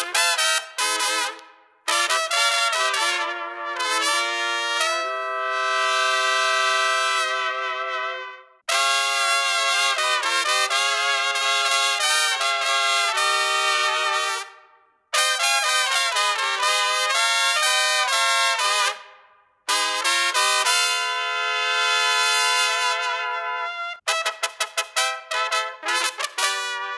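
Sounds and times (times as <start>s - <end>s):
solo trumpet melody: 0.0s - 19.1s, 19.7s - 26.9s.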